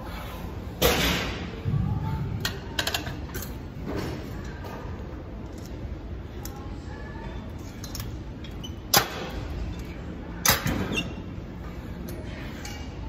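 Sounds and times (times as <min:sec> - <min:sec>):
gym room noise: 0:00.0 - 0:13.0.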